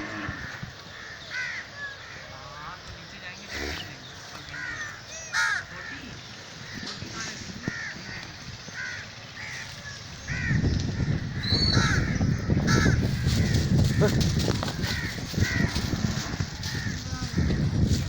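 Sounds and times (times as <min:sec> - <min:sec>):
crows cawing: 0:00.0 - 0:02.6, 0:04.4 - 0:18.0.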